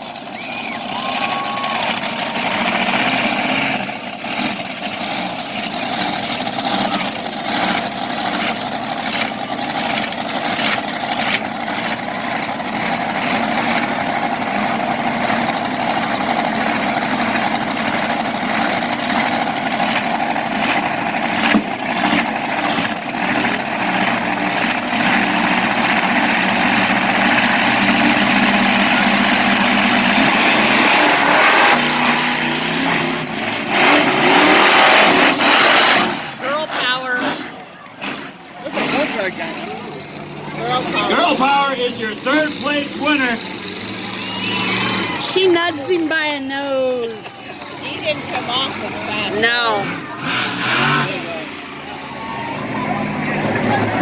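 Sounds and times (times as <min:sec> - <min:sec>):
monster truck engines revving: 0:00.0 - 0:54.0.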